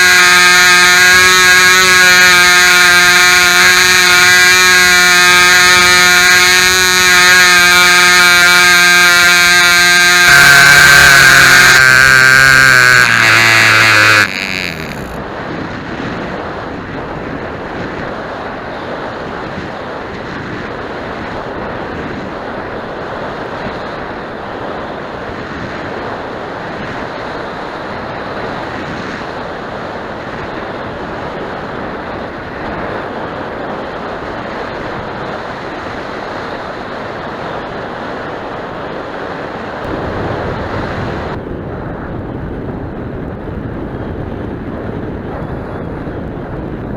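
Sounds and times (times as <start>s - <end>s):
model airplane engine buzzing: 0.0s - 38.6s, 39.5s - 41.4s
wind noise on microphone: 0.0s - 46.9s.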